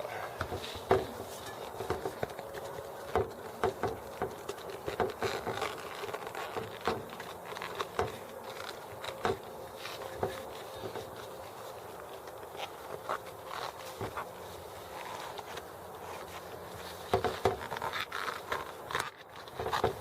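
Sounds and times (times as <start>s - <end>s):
bicycle tire taps and rubbing: 0.4s - 20.0s.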